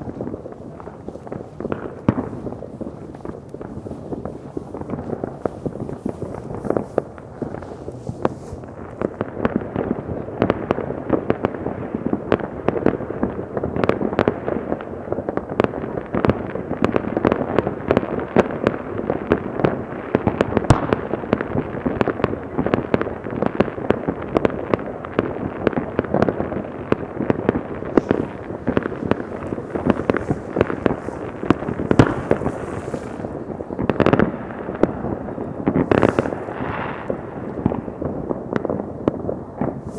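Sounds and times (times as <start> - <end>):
distant fireworks crackling: 0.0 - 39.9.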